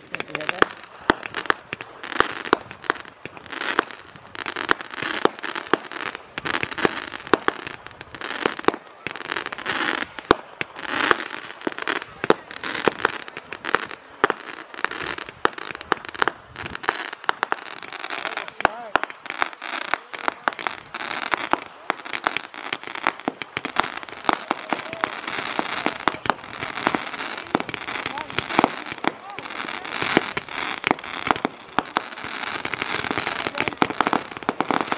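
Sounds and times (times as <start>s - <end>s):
fireworks crackling and hissing: 0.0s - 34.9s
fireworks popping and banging: 0.0s - 34.9s.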